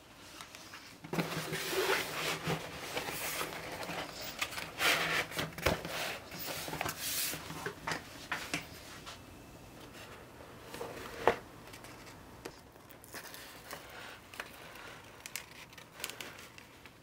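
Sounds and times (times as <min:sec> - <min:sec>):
plastic film rustling and crinkling: 0:00.2 - 0:08.4, 0:10.7 - 0:17.0.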